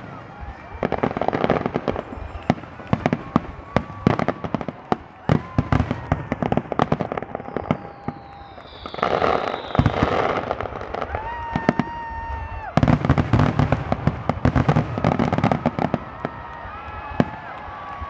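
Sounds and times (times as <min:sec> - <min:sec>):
falling firework whistle: 0:00.0 - 0:18.0
fireworks bangs and crackles: 0:00.0 - 0:18.0.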